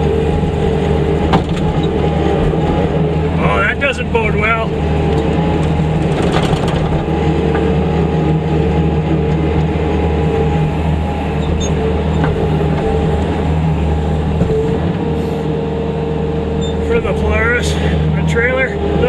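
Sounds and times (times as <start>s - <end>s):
loader engine running: 0.0s - 19.0s.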